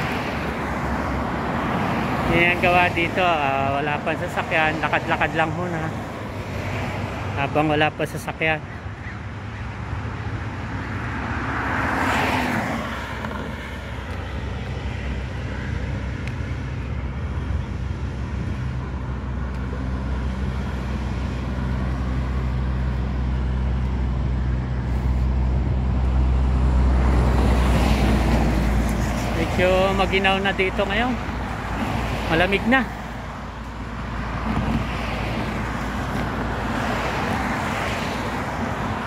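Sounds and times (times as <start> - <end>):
car passing: 0.0 - 39.0
low traffic rumble: 0.0 - 39.0
vehicle approaching: 0.0 - 39.0.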